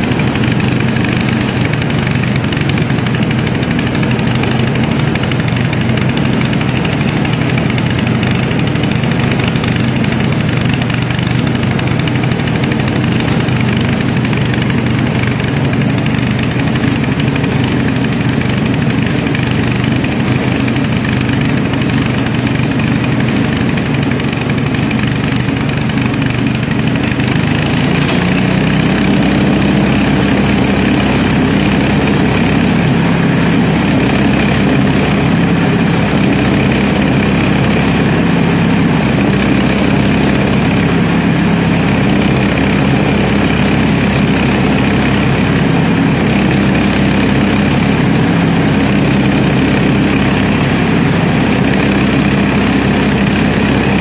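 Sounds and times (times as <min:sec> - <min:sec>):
small petrol engine droning: 0:00.0 - 0:54.0.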